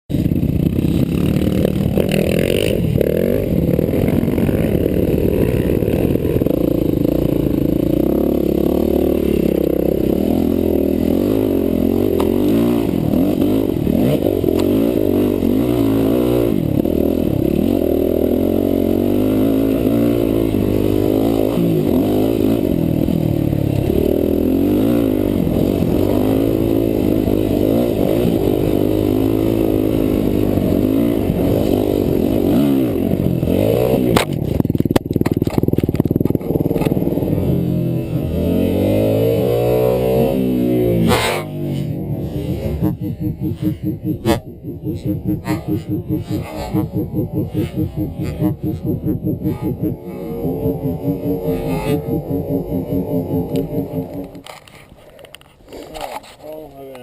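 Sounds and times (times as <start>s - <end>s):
dirt bike engine revving: 0.1s - 56.6s.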